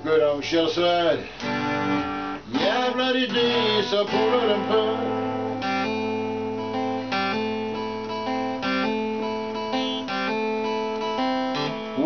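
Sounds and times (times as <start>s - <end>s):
acoustic guitar strumming: 0.9s - 12.0s.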